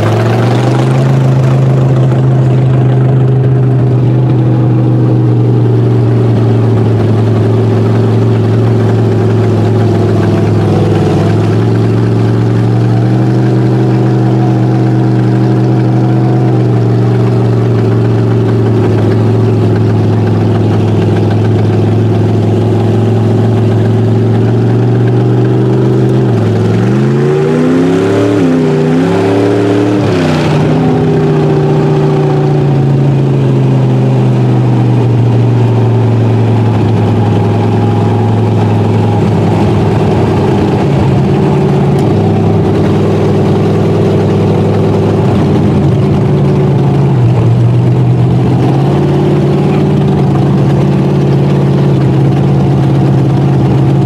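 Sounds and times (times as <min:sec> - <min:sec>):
truck engine running and revving: 0:00.0 - 0:54.0.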